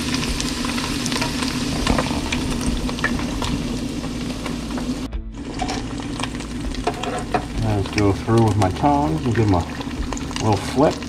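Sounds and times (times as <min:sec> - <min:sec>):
deep-frying sizzle with pops: 0:00.0 - 0:11.0.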